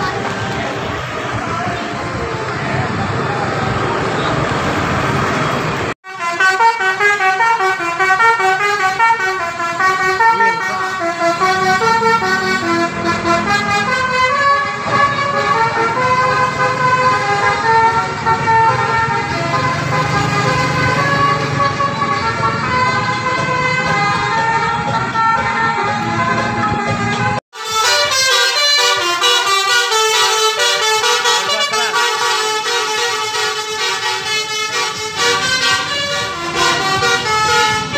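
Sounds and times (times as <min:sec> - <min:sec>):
musical air horn melody: 0:06.0 - 0:37.9.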